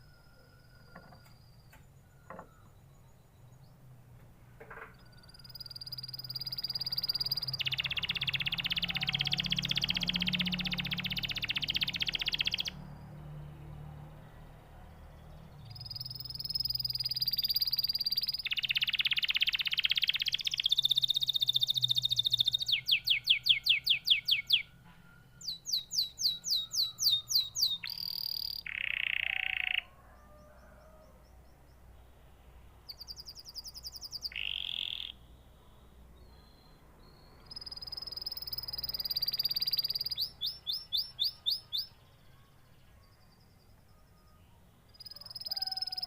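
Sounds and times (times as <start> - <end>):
canary singing trills: 4.7 - 46.0.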